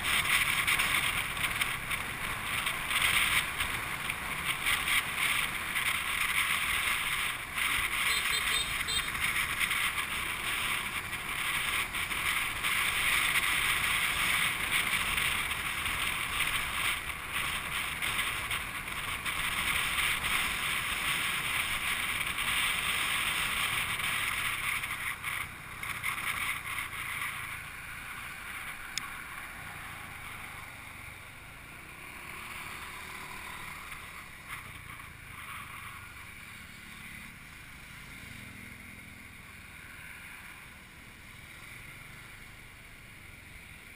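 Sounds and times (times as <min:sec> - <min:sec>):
road noise: 0:00.0 - 0:43.9.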